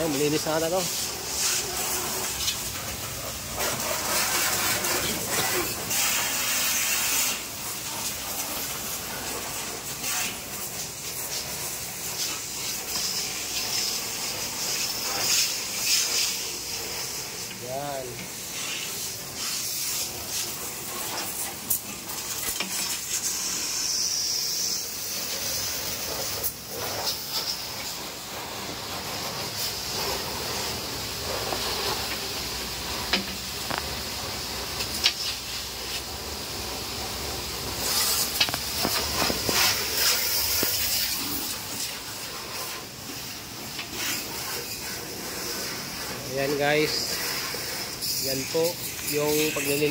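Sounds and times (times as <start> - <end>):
pressure washer jet hissing: 0.0 - 49.9.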